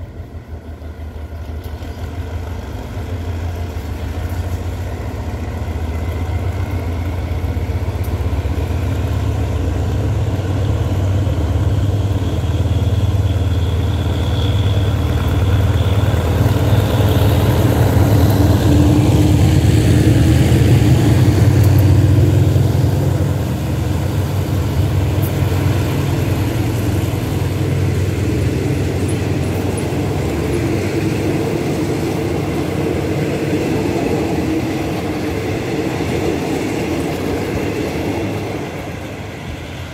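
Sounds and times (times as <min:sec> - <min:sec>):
locomotive engine droning: 0:00.0 - 0:39.9
passenger carriages rolling by: 0:00.0 - 0:39.9.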